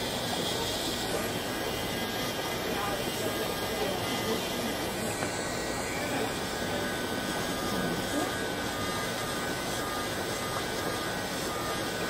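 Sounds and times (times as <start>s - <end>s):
electric nail file whirring: 0.0s - 12.0s.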